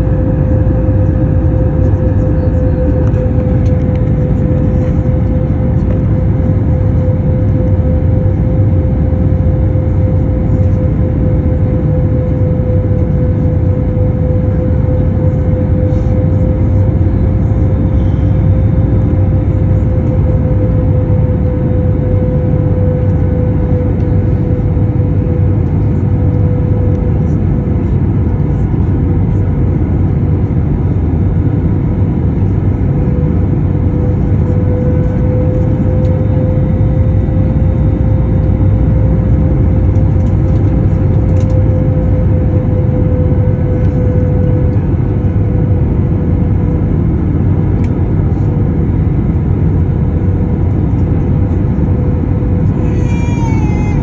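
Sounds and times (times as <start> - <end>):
aircraft cabin engine and airflow rush: 0.0 - 54.0.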